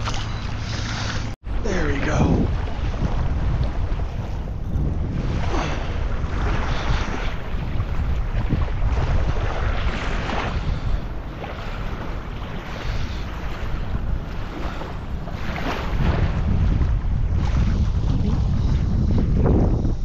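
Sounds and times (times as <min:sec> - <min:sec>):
small waves lapping: 0:00.0 - 0:19.3
wind buffeting microphone: 0:00.0 - 0:20.0.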